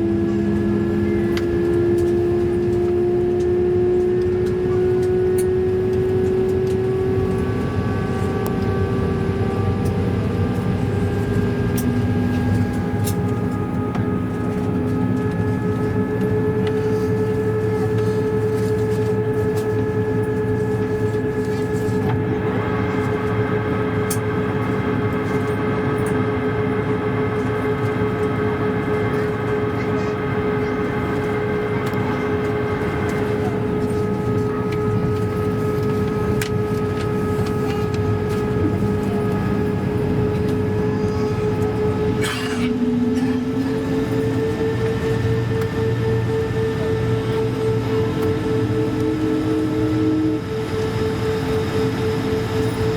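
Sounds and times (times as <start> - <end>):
airplane cabin hum: 0.0 - 52.9
steady whining tones: 0.0 - 52.9.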